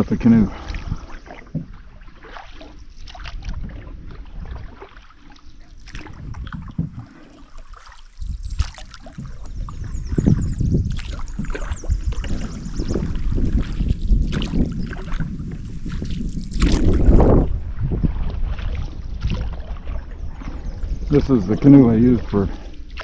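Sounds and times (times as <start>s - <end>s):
paddle strokes splashing: 0.0s - 23.0s
wind buffeting microphone: 0.0s - 23.0s.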